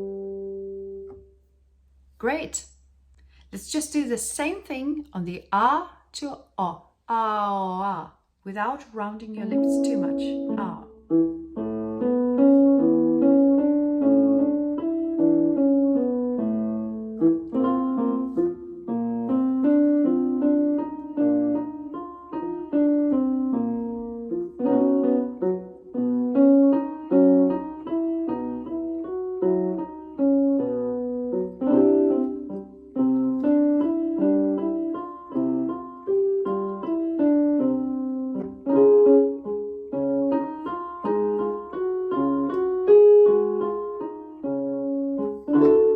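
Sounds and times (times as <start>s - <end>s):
piano playing repeated pattern: 0.0s - 2.5s, 8.8s - 45.9s.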